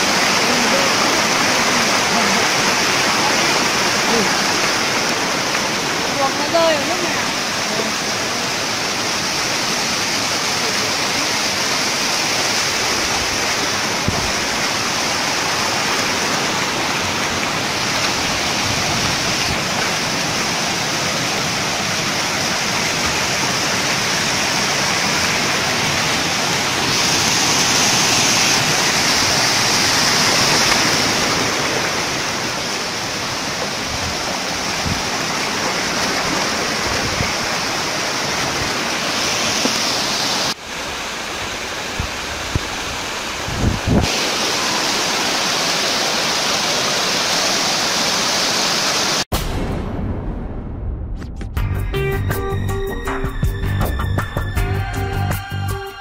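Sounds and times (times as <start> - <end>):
waterfall rushing over rocks: 0.0 - 49.3.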